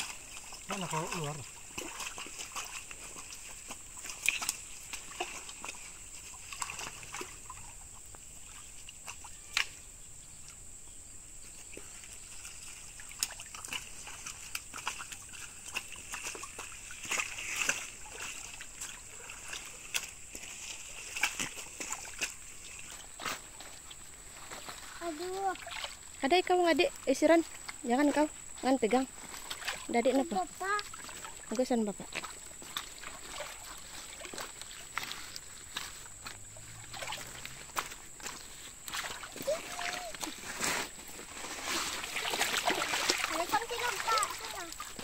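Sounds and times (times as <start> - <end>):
water splashing and sloshing: 0.0 - 9.9, 11.4 - 45.0.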